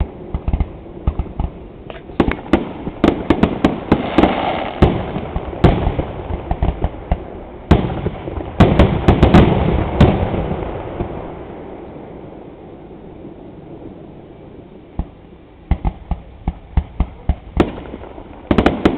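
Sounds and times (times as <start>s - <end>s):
fireworks bangs: 0.0s - 12.3s, 15.0s - 18.9s.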